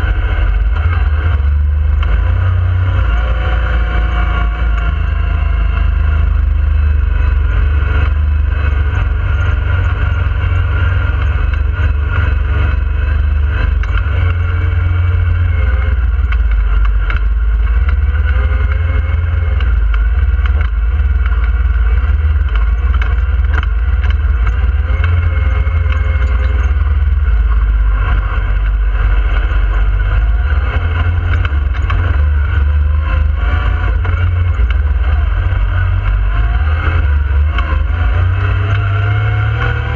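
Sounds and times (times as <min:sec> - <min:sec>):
engine revving: 0:00.0 - 0:39.9
heavy low rumble: 0:00.0 - 0:39.9.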